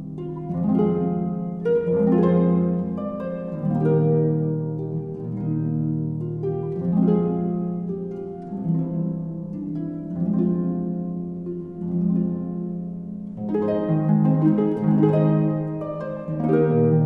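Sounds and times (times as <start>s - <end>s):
slow instrumental music: 0.0s - 17.0s.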